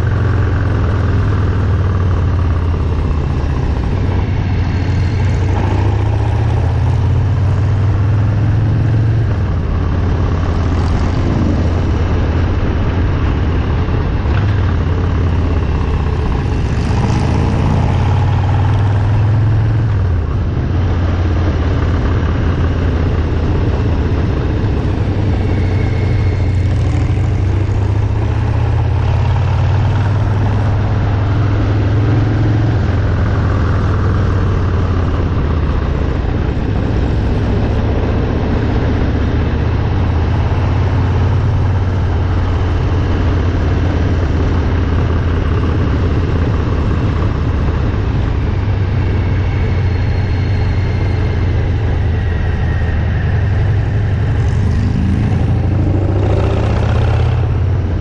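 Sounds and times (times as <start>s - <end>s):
motorcycle engines running: 0.0s - 58.0s
rush of noise: 0.0s - 58.0s.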